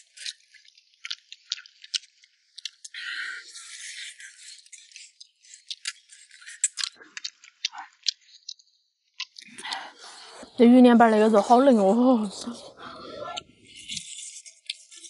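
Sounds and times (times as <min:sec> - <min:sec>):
soft chewing: 0:00.0 - 0:08.6, 0:09.2 - 0:15.0.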